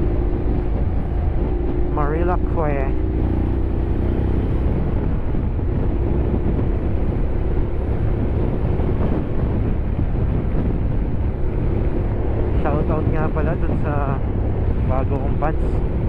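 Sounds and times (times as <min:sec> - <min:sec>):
motorcycle engine running: 0:00.0 - 0:16.0
wind rushing on microphone: 0:00.0 - 0:16.0.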